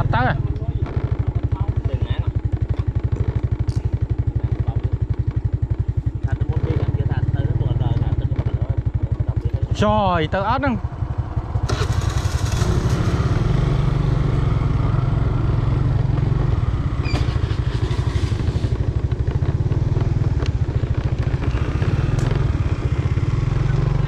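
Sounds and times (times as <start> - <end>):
scooter engine running: 0.0 - 24.0.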